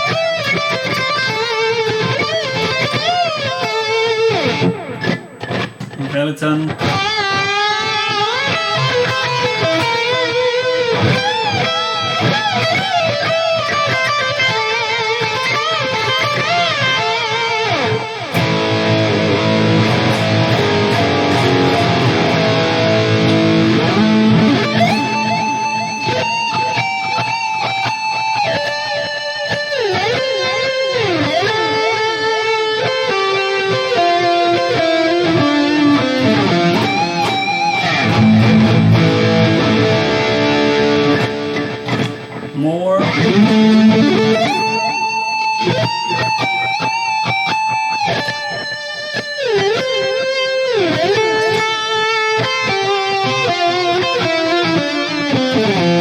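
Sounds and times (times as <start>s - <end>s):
electric guitar lead line: 0.0s - 56.0s.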